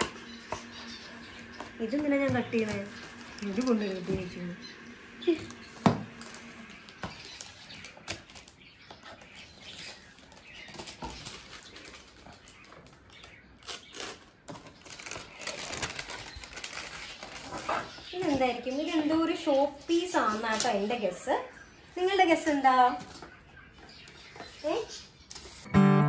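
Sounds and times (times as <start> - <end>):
wrapping paper rustling: 0.0 - 21.1.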